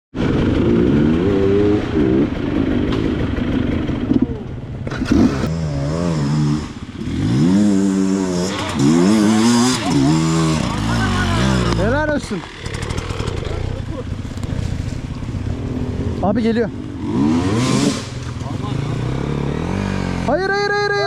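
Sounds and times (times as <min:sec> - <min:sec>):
motorcycle engine revving: 0:00.2 - 0:20.4.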